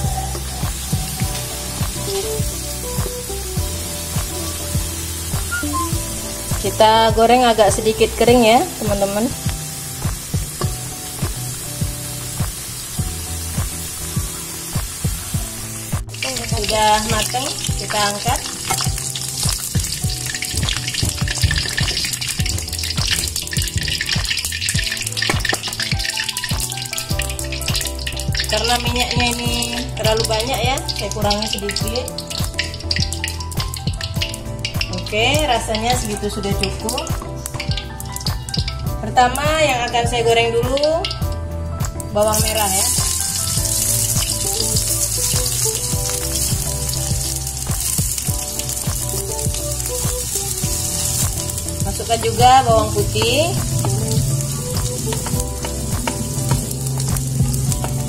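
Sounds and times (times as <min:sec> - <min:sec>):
instrumental background music: 0:00.0 - 0:58.0
oil sizzling in a wok: 0:00.0 - 0:58.0.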